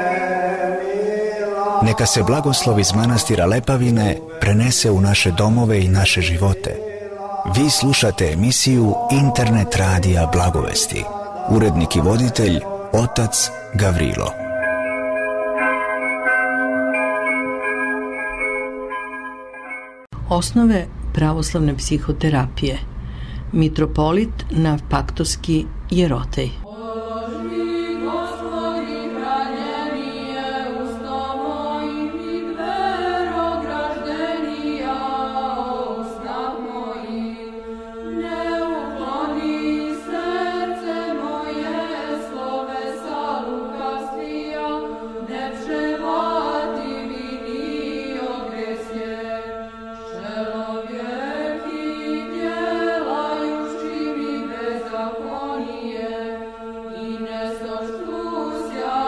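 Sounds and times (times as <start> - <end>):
voices chanting slow melody: 0.0 - 18.8, 26.6 - 59.0.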